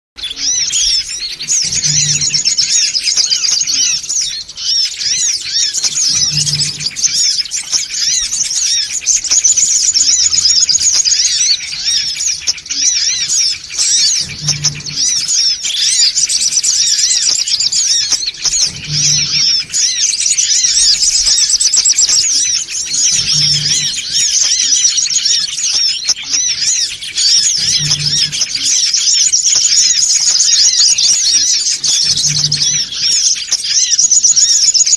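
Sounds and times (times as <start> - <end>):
bird chirping rapidly: 0.2 - 34.9.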